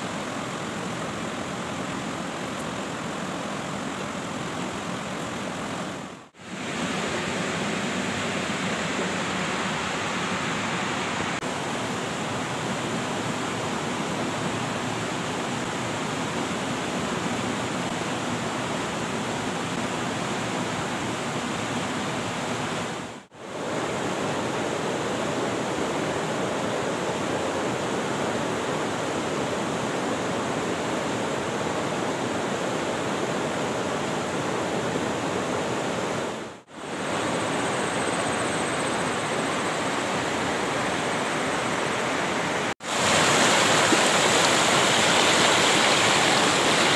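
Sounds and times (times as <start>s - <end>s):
river rushing over rocks: 0.0s - 46.9s.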